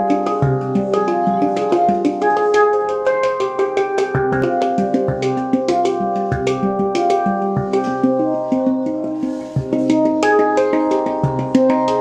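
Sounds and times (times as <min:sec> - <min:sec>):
handpan played fast: 0:00.0 - 0:12.0.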